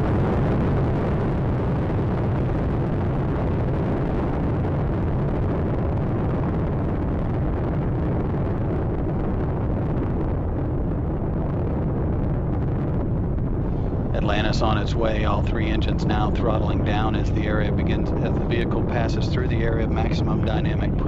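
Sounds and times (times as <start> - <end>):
rocket engines roaring: 0.0 - 21.0.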